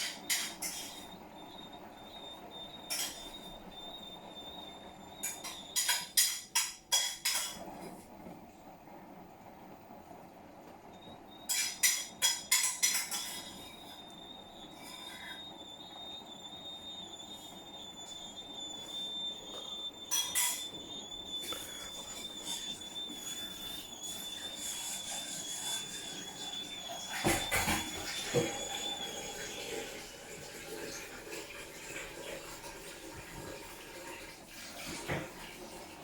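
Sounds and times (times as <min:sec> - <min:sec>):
appliance high-pitched squeal: 0:00.0 - 0:08.0, 0:10.8 - 0:36.0.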